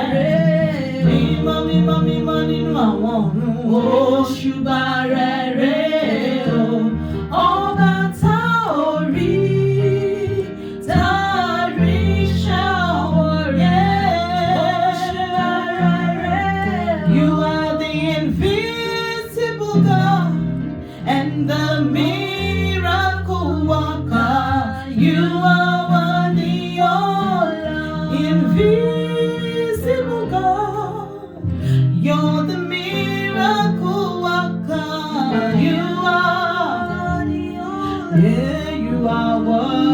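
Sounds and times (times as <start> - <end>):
guitar: 0.0 - 39.9
person singing: 0.0 - 39.9.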